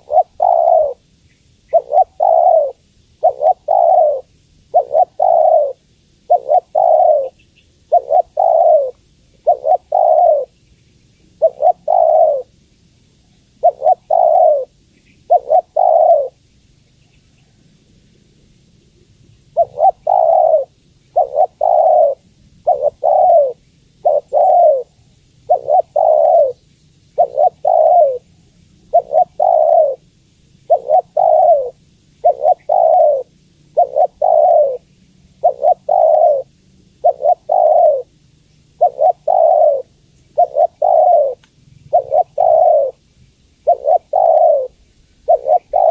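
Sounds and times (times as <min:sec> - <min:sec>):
dove cooing: 0:00.0 - 0:01.1, 0:01.7 - 0:10.6, 0:11.4 - 0:12.6, 0:13.5 - 0:16.4, 0:19.5 - 0:26.6, 0:27.2 - 0:43.0, 0:43.6 - 0:45.9.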